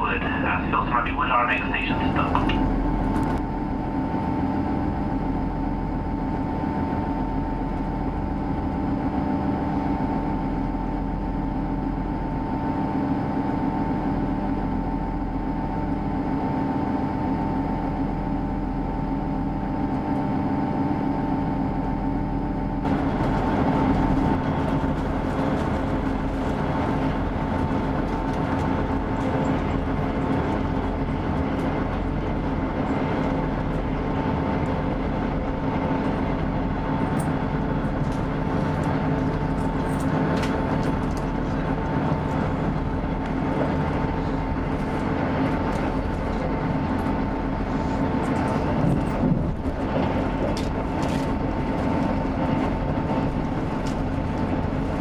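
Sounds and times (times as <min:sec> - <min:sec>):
train engine and transmission hum: 0:00.0 - 0:55.0.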